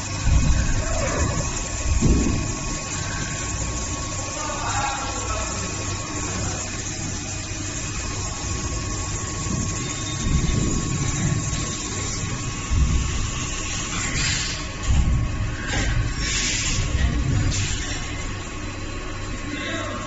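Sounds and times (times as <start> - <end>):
machining center humming: 0.0 - 20.0.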